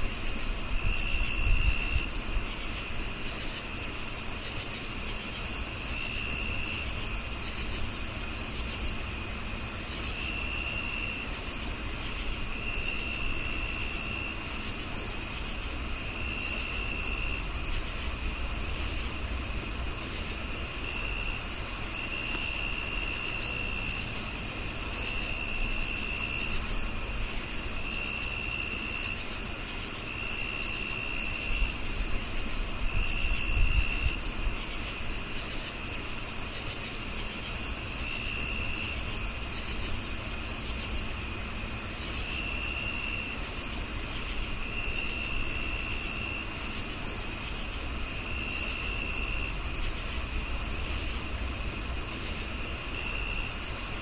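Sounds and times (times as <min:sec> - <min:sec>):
high-pitched cricket trill: 0:00.0 - 0:54.0
lower cricket trill: 0:00.0 - 0:54.0
regular cricket chirp: 0:00.0 - 0:54.0.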